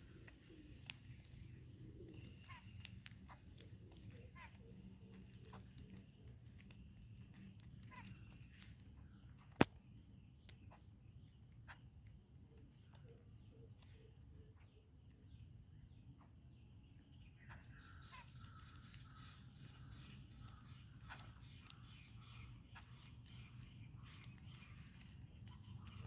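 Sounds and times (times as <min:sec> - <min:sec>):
faint wild bird calls: 0:00.0 - 0:26.0.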